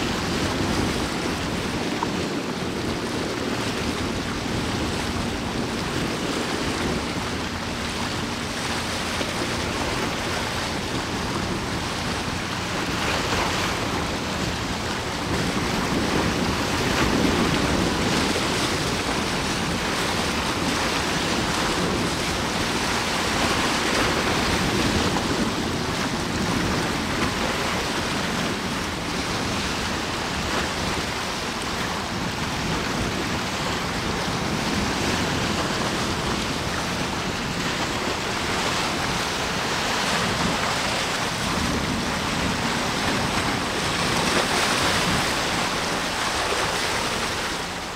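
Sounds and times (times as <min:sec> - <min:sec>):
waves washing: 0:00.0 - 0:47.9
wind on microphone: 0:00.0 - 0:47.9.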